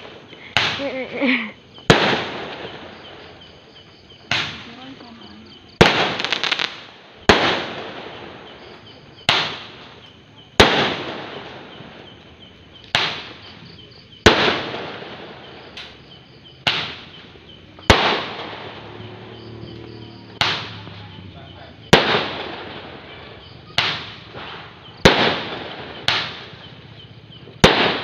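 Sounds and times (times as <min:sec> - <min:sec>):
fireworks bangs with echo: 0:00.0 - 0:28.0.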